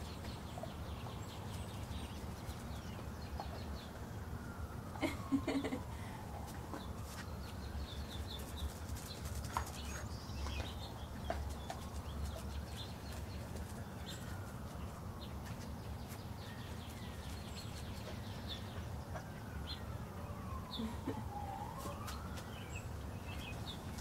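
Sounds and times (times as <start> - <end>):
small birds chirping: 0.0 - 4.6, 6.7 - 24.0
distant siren rising and falling: 0.0 - 24.0.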